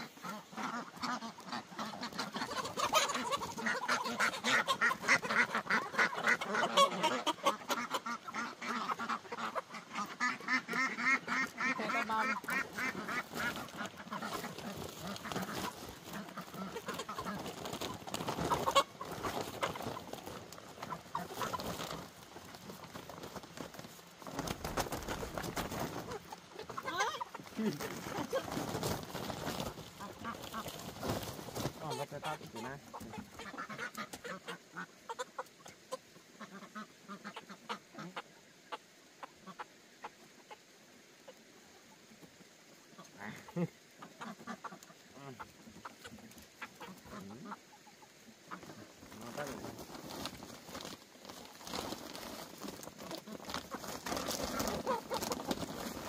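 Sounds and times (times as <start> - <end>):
flock of waterfowl calling: 0.0 - 42.2, 42.8 - 56.0.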